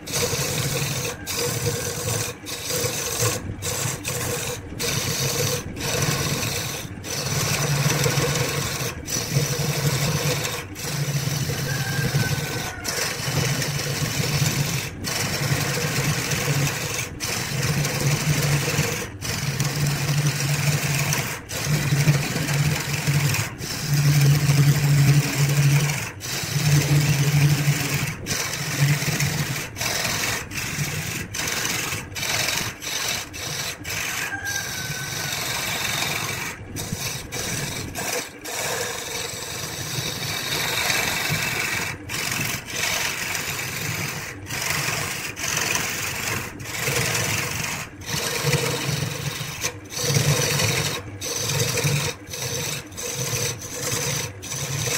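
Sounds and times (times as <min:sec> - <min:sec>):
tool rubbing spinning wood: 0:00.0 - 0:54.9
wood lathe motor hum: 0:00.0 - 0:54.9.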